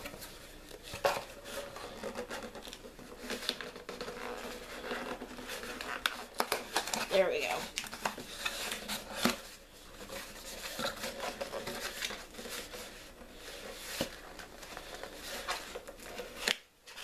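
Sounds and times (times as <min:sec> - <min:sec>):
cardboard rustling and scraping: 0:00.0 - 0:17.0.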